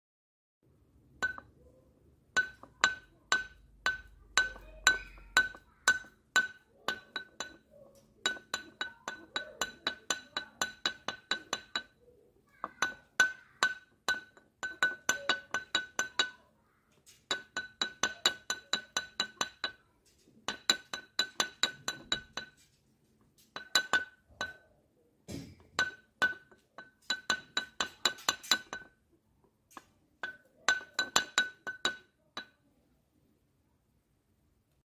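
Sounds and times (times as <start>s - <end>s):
clay flowerpot struck ringing: 1.2s - 1.7s, 2.3s - 22.7s, 23.4s - 24.7s, 25.3s - 29.0s, 29.7s - 32.6s.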